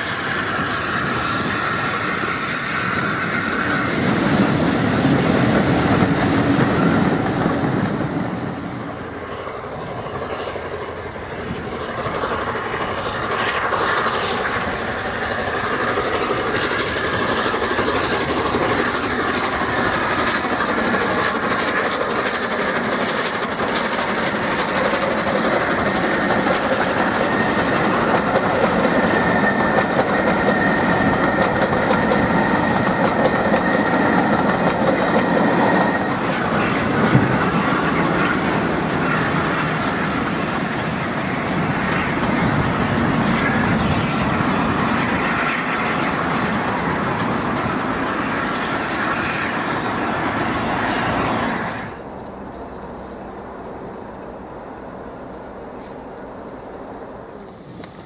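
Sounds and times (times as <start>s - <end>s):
steam locomotive working: 0.0s - 58.0s.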